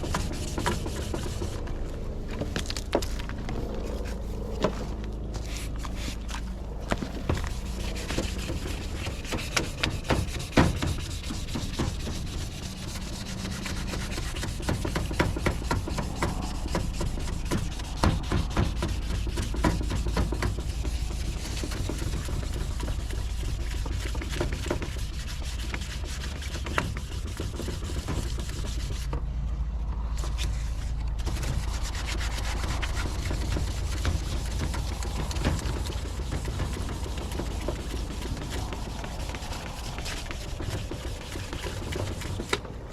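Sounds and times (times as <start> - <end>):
sandpaper rubbing on plastic: 0.0 - 29.2, 30.2 - 42.9
steady low rumble: 0.0 - 42.9.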